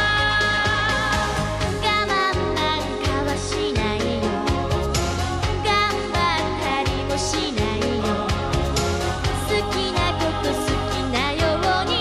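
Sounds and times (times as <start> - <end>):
pop song with drum beat: 0.0 - 12.0.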